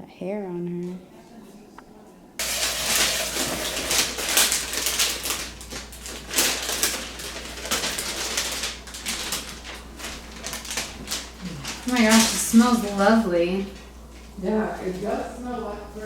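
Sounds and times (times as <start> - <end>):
steady low hum: 0.0 - 16.0
wrapping rustling and crinkling: 2.4 - 15.8.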